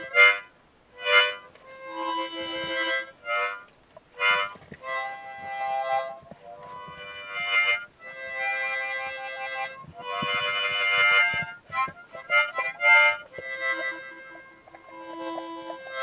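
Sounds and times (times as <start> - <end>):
harmonica chords: 0.0 - 16.0.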